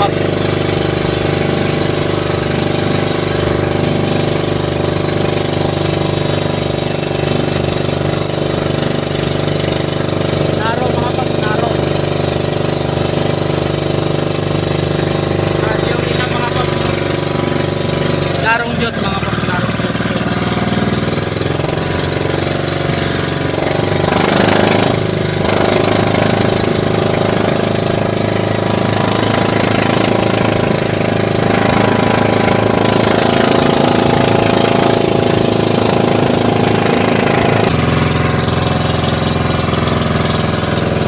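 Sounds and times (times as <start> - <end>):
boat engine running: 0.0 - 41.0
water and wind rushing: 0.0 - 41.0.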